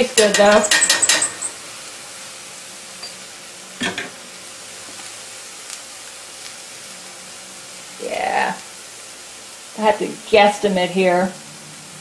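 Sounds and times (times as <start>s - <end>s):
oil sizzling in a skillet: 0.0s - 12.0s.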